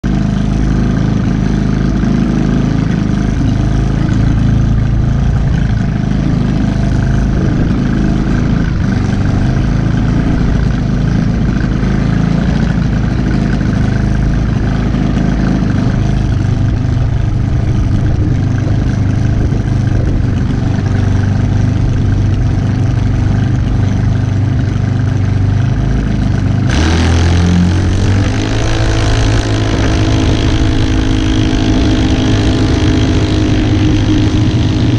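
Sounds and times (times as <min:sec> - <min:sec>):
engine revving: 0:00.0 - 0:34.9
single-cylinder engine idling: 0:00.0 - 0:34.9.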